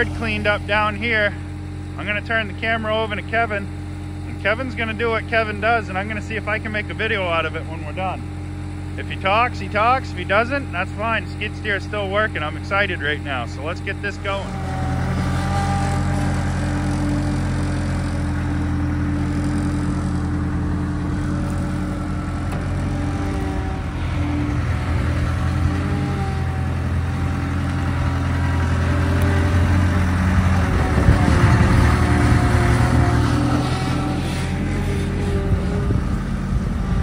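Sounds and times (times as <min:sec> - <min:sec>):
skid steer engine running: 0:00.0 - 0:37.0.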